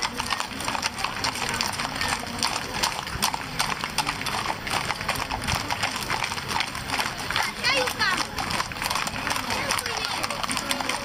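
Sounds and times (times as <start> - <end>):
horses clip-clopping: 0.0 - 11.0.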